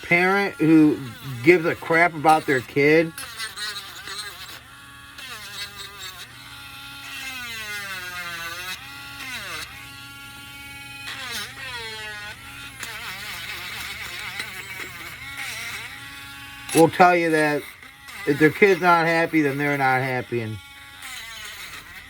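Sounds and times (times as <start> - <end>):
electric sander on wood: 0.0 - 22.0.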